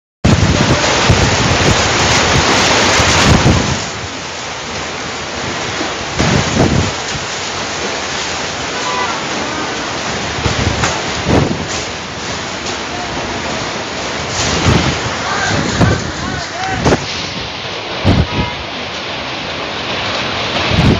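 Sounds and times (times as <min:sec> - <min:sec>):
heavy rain pouring: 0:00.2 - 0:20.9
wind gusts buffeting microphone: 0:00.2 - 0:20.9.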